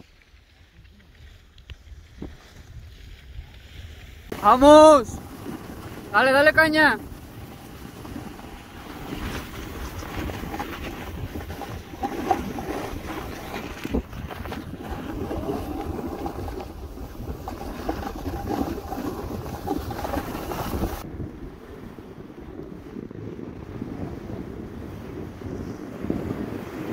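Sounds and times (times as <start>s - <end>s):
snowboard scraping over snow: 0.1s - 26.9s
wind on microphone: 0.6s - 26.9s.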